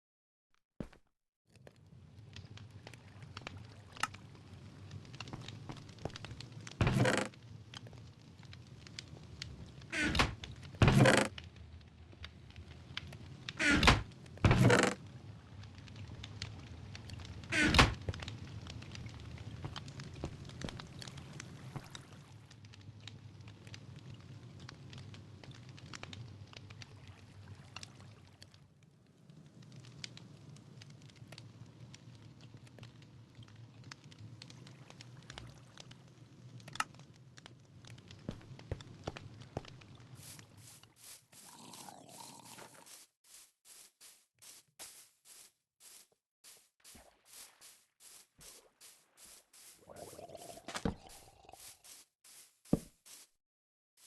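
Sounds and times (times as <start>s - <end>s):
campfire crackling: 1.6s - 52.5s.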